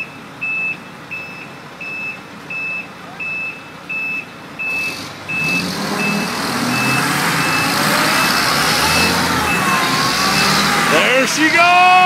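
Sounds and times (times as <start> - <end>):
diesel engines working hard: 0.0 - 12.0
truck backup alarm beeping: 0.0 - 12.0.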